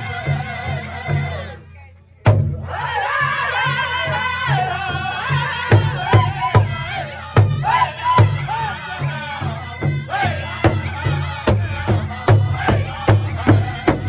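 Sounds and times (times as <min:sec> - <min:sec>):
large drum beaten steadily: 0:00.0 - 0:01.5, 0:02.2 - 0:14.0
men singing in high voices: 0:00.0 - 0:01.9, 0:02.6 - 0:14.0.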